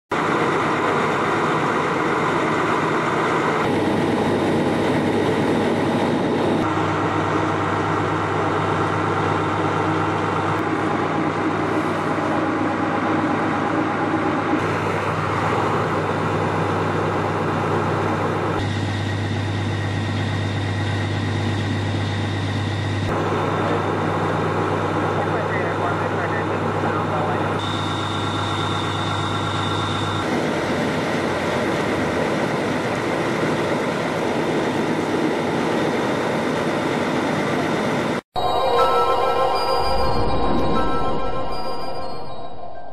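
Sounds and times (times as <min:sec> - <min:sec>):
diesel engines idling: 0:00.1 - 0:40.3.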